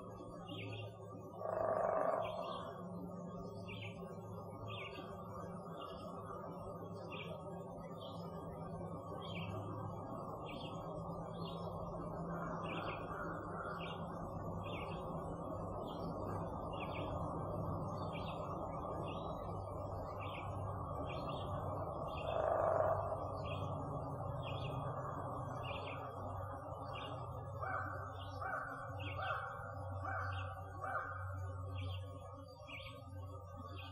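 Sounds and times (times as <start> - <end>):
low background rumble: 0.0 - 33.9
songbird chirping: 0.0 - 33.9.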